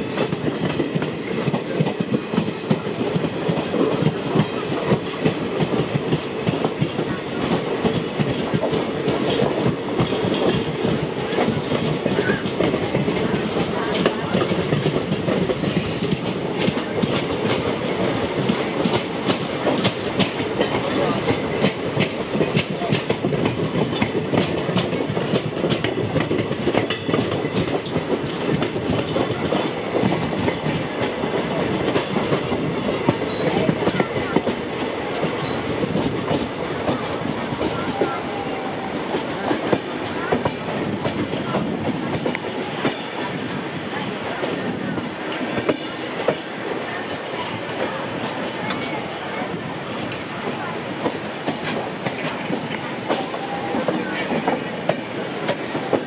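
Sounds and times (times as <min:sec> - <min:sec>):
passing train alongside: 0:00.0 - 0:56.0
train wheels clattering over rail joints: 0:00.0 - 0:56.0.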